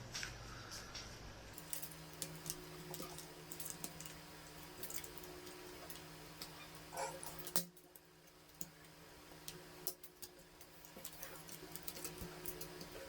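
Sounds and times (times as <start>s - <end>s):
faint steady hum: 0.0s - 13.0s
small irregular clicks and ticks: 1.6s - 13.0s.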